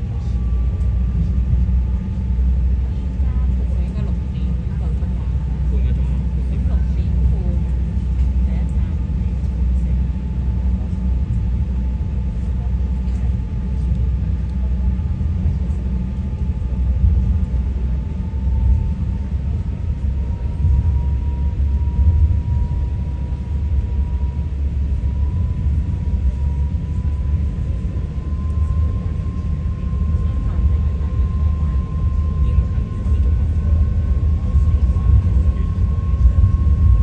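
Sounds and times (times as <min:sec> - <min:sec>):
ferry engines rumbling: 0:00.0 - 0:37.0.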